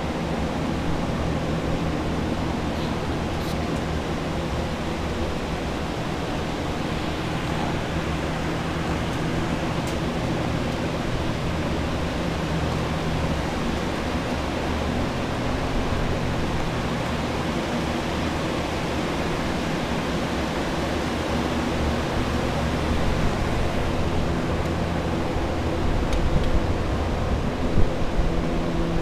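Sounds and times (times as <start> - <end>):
low motor hum: 0.0 - 29.0.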